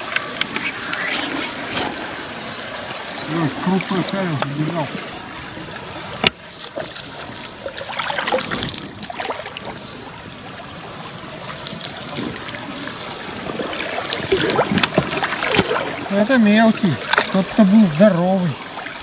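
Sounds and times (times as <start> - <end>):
river water trickling: 0.0 - 19.0.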